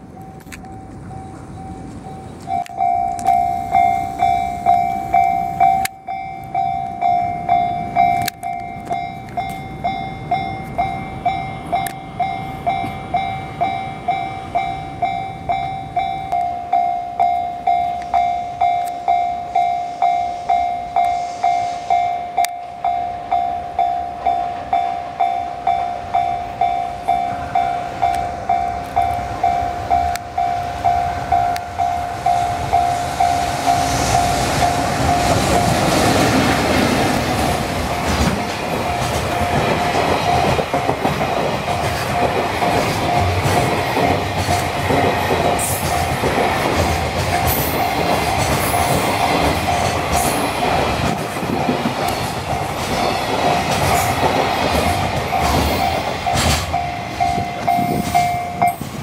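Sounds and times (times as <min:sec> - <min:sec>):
level crossing alarm ringing: 0:00.0 - 0:59.0
train wheels rumbling and clacking: 0:00.0 - 0:59.0.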